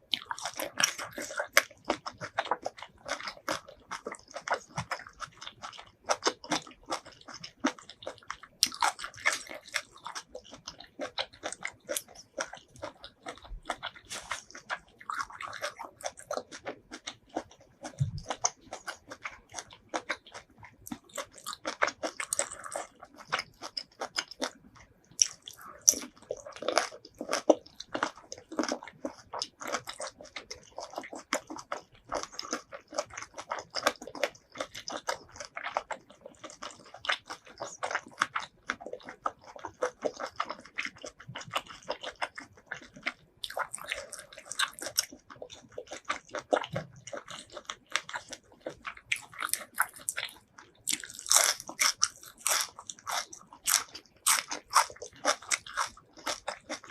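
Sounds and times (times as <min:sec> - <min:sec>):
chewing and crunching seafood: 0:00.0 - 0:56.9.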